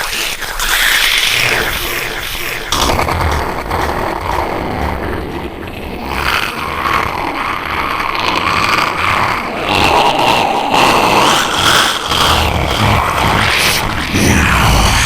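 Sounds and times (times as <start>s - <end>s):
distorted growling noise: 0.0s - 15.0s.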